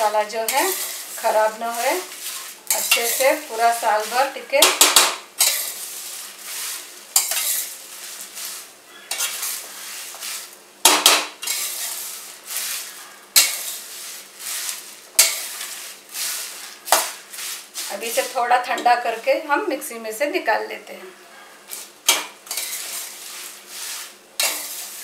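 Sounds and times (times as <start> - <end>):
spatula scraping spices in pan: 0.0 - 4.7, 5.4 - 10.6, 11.4 - 19.5, 21.5 - 25.0.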